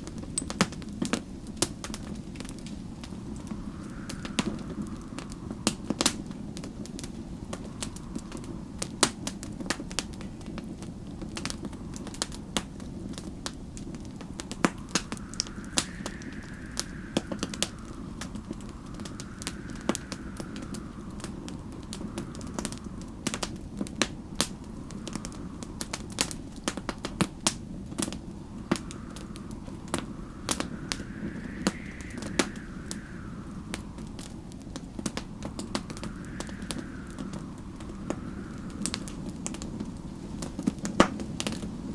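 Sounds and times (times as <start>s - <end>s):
fireplace crackling and popping: 0.0s - 41.9s
wind howling: 0.0s - 41.9s
low rumble: 2.2s - 11.0s, 11.6s - 40.5s.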